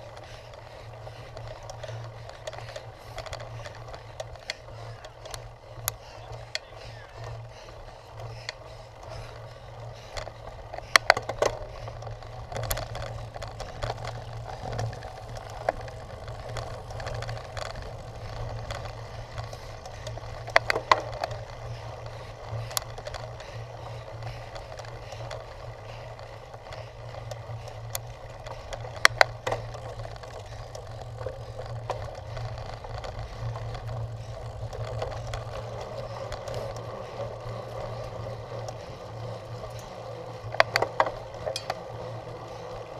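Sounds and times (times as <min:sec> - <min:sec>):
bike rattling clacks: 0:00.0 - 0:42.9
bike tyres rolling over rough ground: 0:00.0 - 0:42.9.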